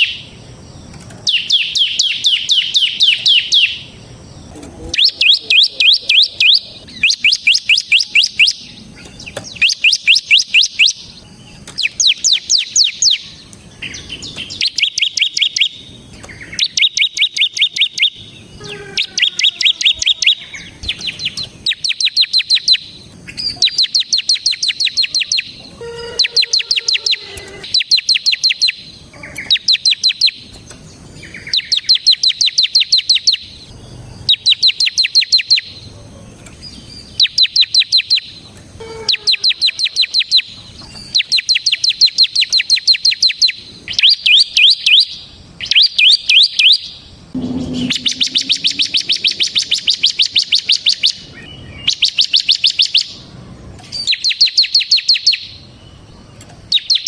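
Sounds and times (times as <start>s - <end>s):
bird singing high chirps: 1.2s - 30.4s, 31.2s - 35.8s, 36.6s - 53.2s, 53.9s - 56.1s, 56.7s - 57.0s.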